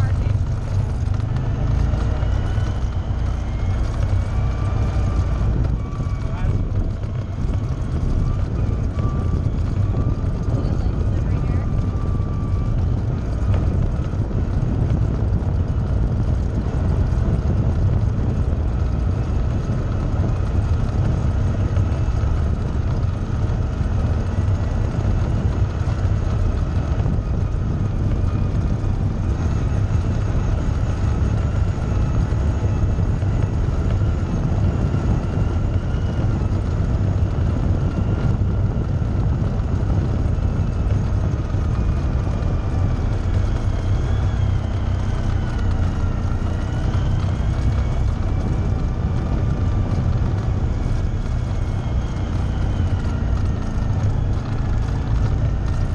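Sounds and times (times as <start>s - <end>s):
tyres on gravel trail: 0.0s - 55.9s
vehicle engine rumbling: 0.0s - 55.9s.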